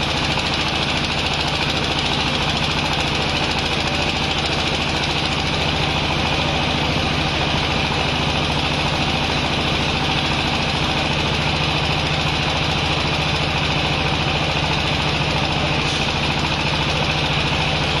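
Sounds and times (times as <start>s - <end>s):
baler machine drone: 0.0s - 18.0s.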